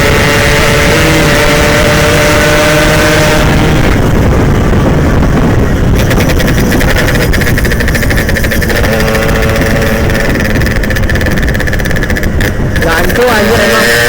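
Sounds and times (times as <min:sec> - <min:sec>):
two-stroke motorcycle engine: 0:00.0 - 0:14.0
wind rush: 0:00.0 - 0:14.0.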